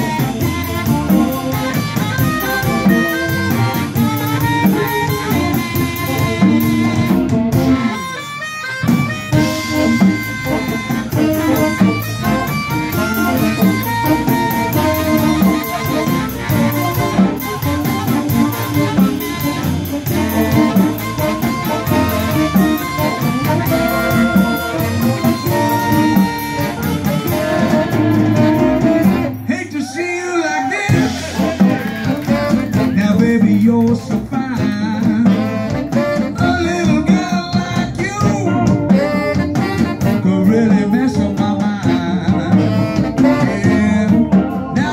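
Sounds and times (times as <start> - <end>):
bass: 0.0 - 44.9
drums: 0.0 - 44.9
electric guitars: 0.0 - 44.9
harmonica: 0.0 - 44.9
saxophones: 0.0 - 44.9.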